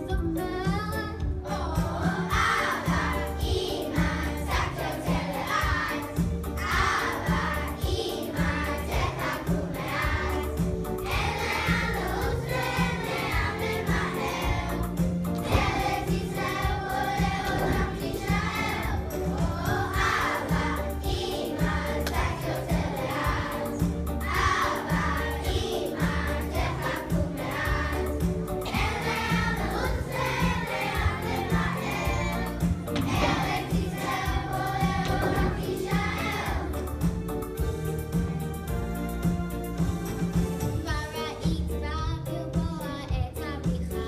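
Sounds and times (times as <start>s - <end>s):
musical accompaniment with beat: 0.0s - 44.0s
children singing together: 1.4s - 37.1s.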